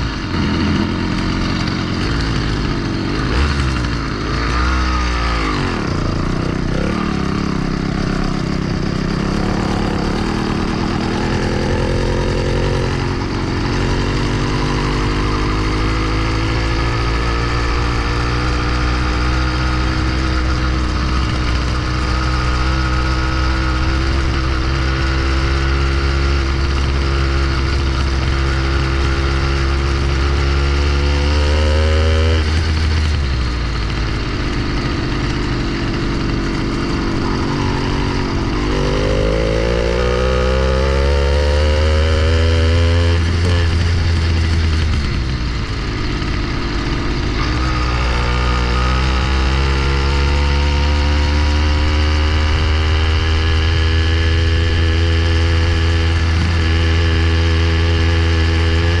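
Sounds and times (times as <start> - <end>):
two-stroke engine running: 0.0 - 59.0.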